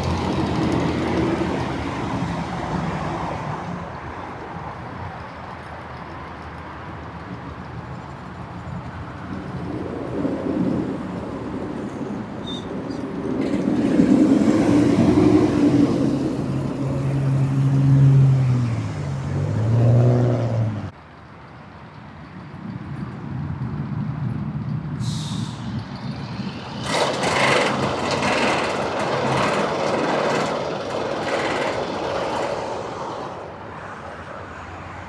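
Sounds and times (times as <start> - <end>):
roller coaster rumbling on track: 0.0 - 35.0.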